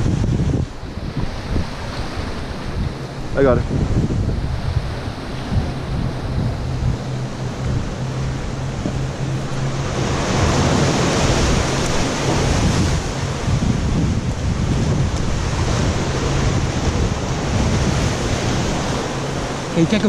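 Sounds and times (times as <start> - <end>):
surf: 0.0 - 20.0
wind: 0.0 - 20.0
wind buffeting microphone: 0.0 - 20.0.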